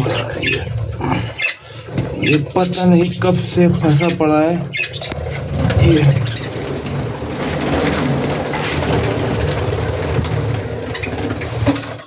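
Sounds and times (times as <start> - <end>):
budgies chattering: 0.0 - 10.3.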